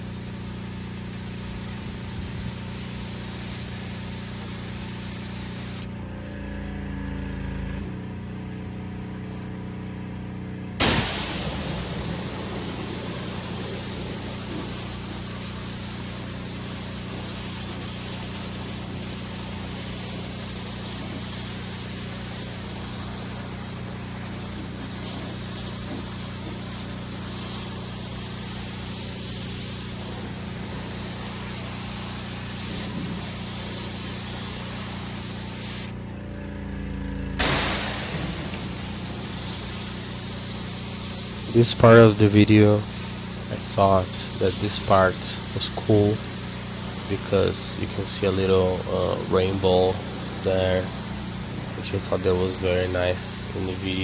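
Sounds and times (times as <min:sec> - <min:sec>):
high-pressure water spray hissing: 0:00.0 - 0:06.0, 0:10.8 - 0:36.0, 0:37.4 - 0:54.0
pressure washer engine running: 0:00.0 - 0:54.0.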